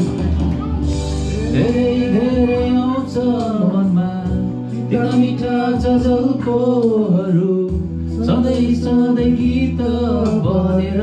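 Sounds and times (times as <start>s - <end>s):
instrumental backing music: 0.0s - 11.0s
man singing: 1.1s - 11.0s.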